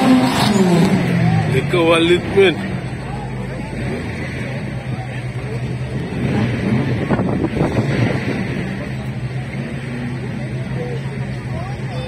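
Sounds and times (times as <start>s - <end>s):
faint crowd chatter: 0.0s - 12.0s
race car engines humming: 0.0s - 12.0s.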